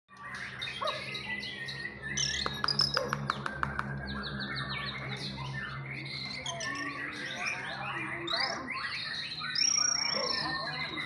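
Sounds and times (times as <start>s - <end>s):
birds whistling and chirping: 0.1s - 11.0s.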